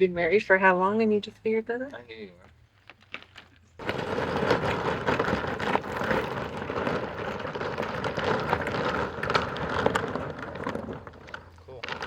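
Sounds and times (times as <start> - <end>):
plastic membrane rustling and crackling: 1.9 - 12.0.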